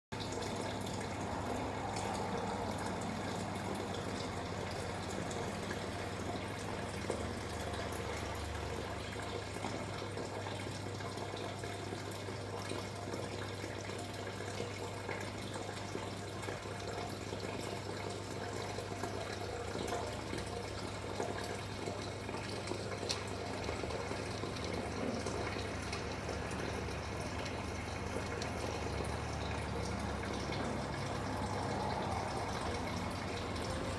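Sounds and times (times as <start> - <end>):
pump hum: 0.1 - 33.9
running water: 0.1 - 33.9.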